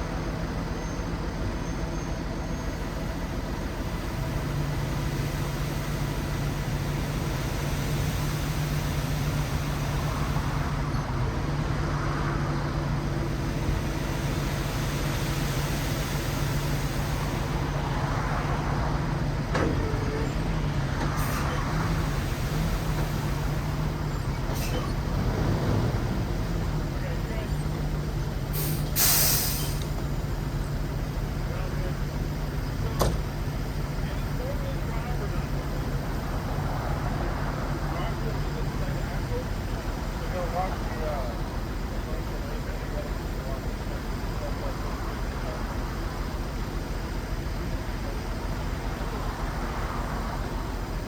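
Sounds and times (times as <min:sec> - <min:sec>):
dump truck engine running: 0:00.0 - 0:51.0.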